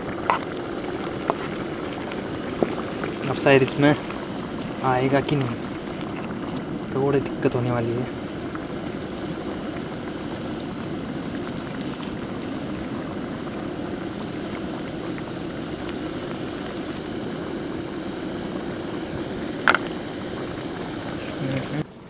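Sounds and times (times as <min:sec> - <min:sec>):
gas stove burner hissing: 0:00.0 - 0:21.9.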